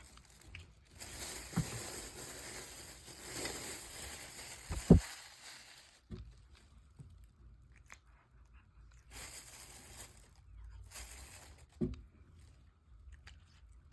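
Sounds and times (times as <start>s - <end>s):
cat crunching food: 0.0s - 4.3s, 6.1s - 13.9s.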